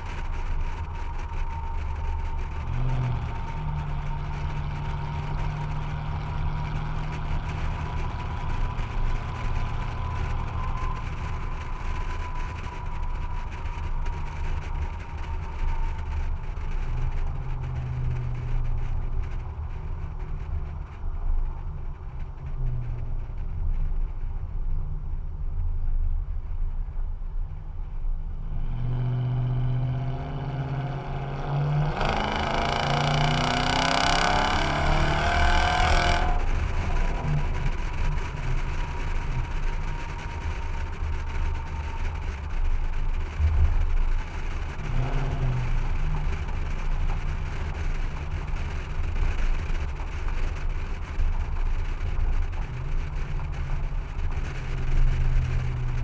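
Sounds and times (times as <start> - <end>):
truck exhaust droning: 0.0 - 24.8, 25.5 - 56.0.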